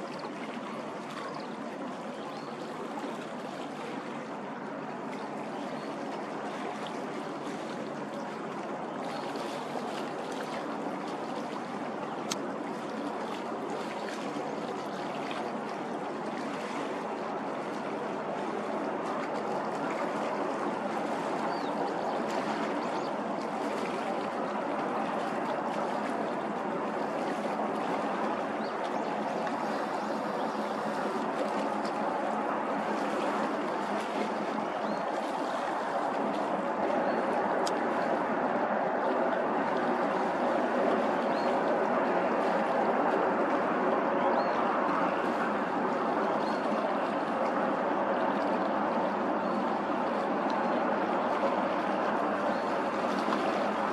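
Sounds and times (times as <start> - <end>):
rushing water from ship wake: 0.0 - 53.9.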